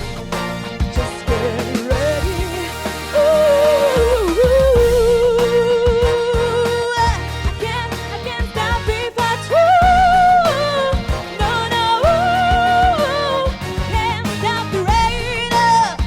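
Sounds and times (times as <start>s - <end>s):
instrumental backing: 0.0s - 16.0s
person singing with vibrato: 0.0s - 16.0s.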